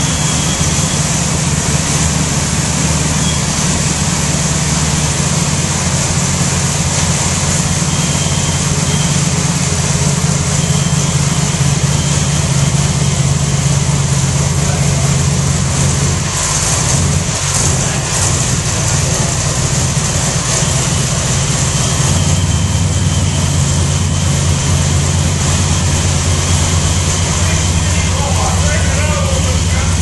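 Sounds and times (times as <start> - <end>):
buggy engine idling: 0.0 - 30.0.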